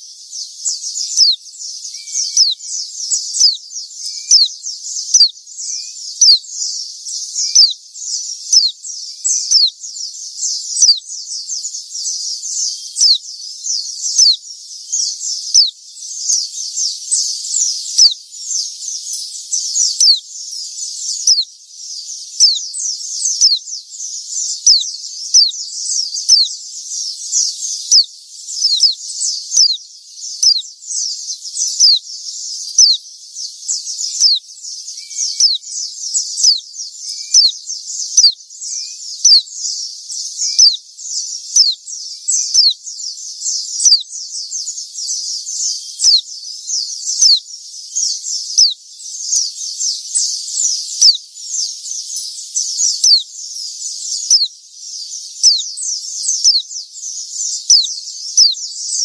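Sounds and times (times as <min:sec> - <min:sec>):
bird singing high thin notes: 0:00.0 - 0:14.4, 0:15.0 - 0:59.0.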